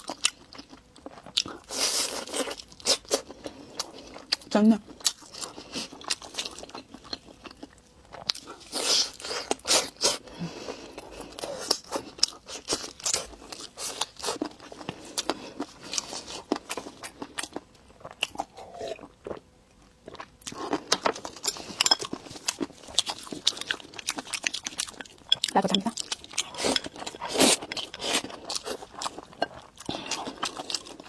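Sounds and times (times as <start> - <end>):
crunchy chewing of food: 0.0 - 31.0.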